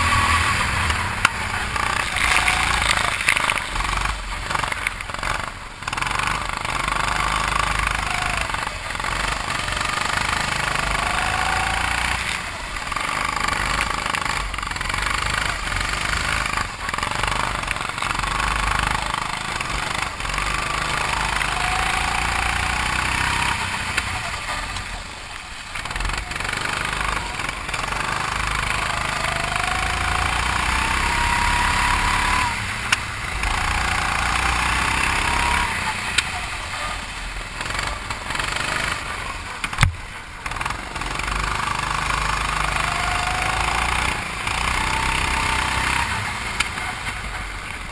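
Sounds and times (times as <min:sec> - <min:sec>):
go-kart engine revving: 0:00.0 - 0:47.9.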